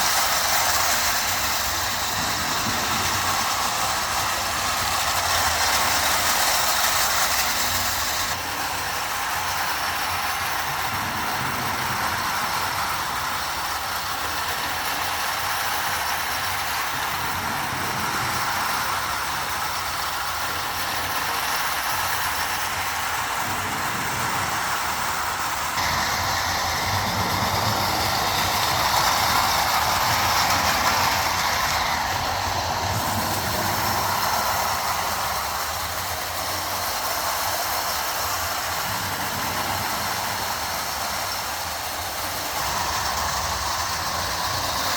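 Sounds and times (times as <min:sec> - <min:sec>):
toy train whirring on metal rails: 0:00.0 - 0:44.9.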